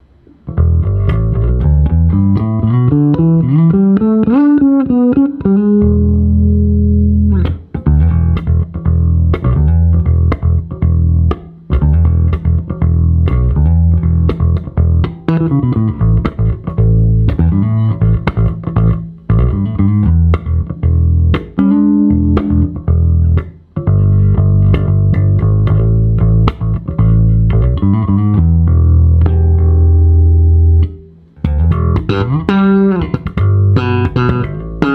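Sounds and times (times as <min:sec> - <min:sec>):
electric bass guitar solo: 0:00.3 - 0:34.9.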